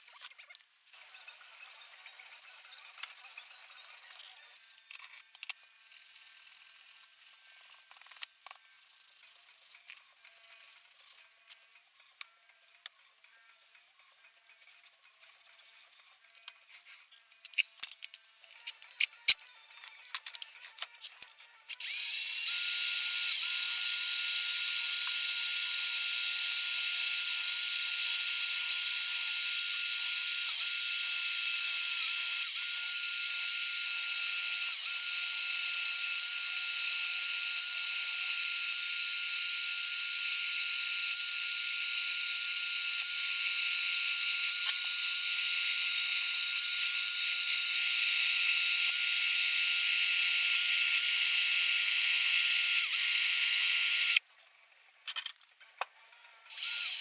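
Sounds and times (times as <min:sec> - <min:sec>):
small power tool whining: 0:00.0 - 0:54.2, 0:55.7 - 0:57.0.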